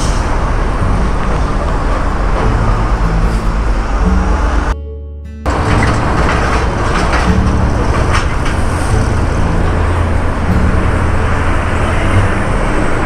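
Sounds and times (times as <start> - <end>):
road noise: 0.0 - 4.8, 5.4 - 13.0
truck engine rumble: 0.0 - 13.0.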